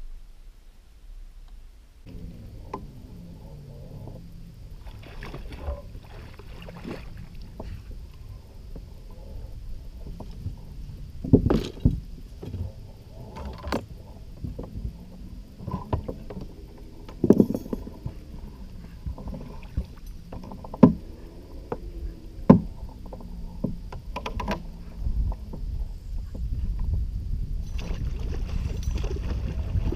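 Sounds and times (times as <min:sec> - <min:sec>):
water sloshing: 0:02.1 - 0:25.5, 0:27.7 - 0:29.9.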